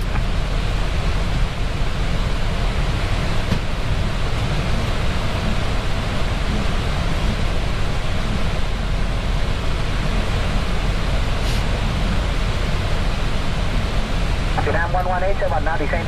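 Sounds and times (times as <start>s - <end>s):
aircraft cockpit rushing noise: 0.0s - 16.0s.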